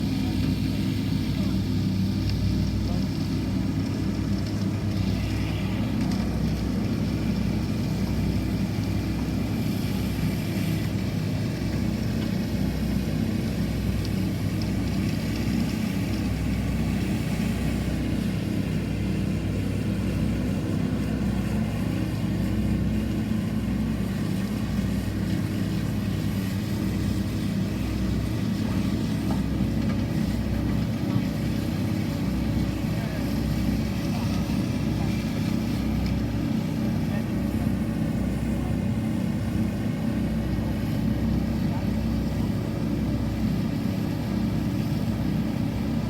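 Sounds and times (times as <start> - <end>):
low engine drone: 0.0 - 46.0.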